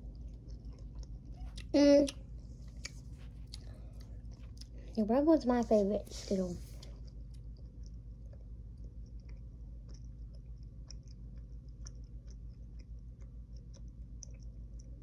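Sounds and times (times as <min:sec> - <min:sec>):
mouth clicks chewing candy: 0:00.0 - 0:05.0, 0:06.8 - 0:15.0
steady low hum: 0:00.0 - 0:15.0.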